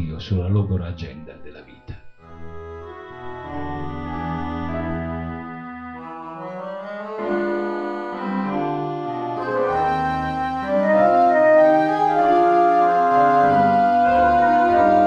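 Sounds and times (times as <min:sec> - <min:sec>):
organ-like keyboard chords: 0:00.0 - 0:15.0.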